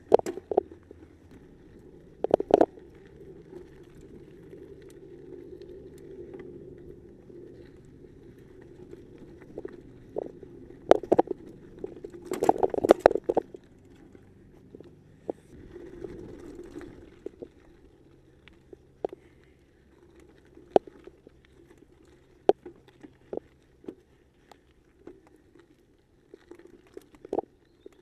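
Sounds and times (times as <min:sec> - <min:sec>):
bike rattling over rough ground: 0:00.0 - 0:28.0
bike tyres rumbling on dirt: 0:00.0 - 0:28.0.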